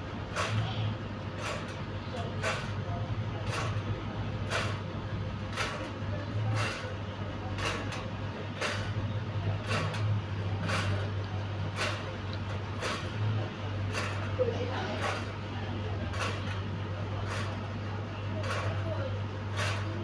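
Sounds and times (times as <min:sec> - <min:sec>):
electric fan humming: 0:00.0 - 0:20.0
fan swishing scrape: 0:00.0 - 0:20.0.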